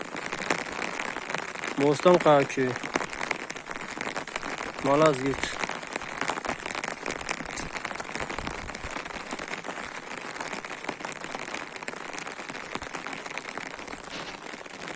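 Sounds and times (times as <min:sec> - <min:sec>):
heavy rain pattering: 0:00.0 - 0:14.9.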